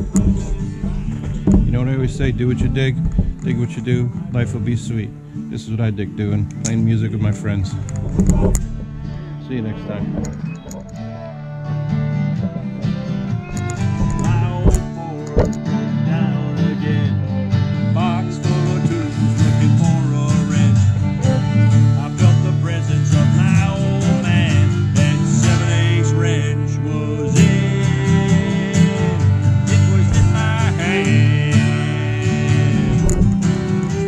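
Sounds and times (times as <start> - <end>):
acoustic guitars strumming: 0.0 - 34.0
fiddle melody: 0.0 - 34.0.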